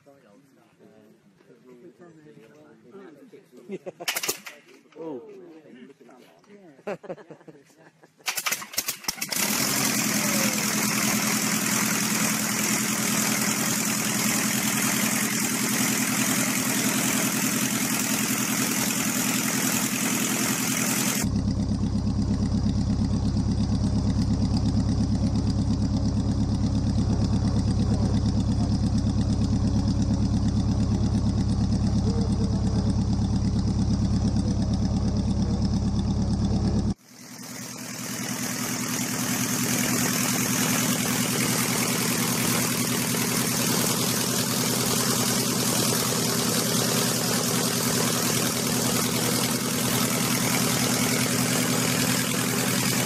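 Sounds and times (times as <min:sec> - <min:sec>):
small piston engine running: 0:08.3 - 0:53.0.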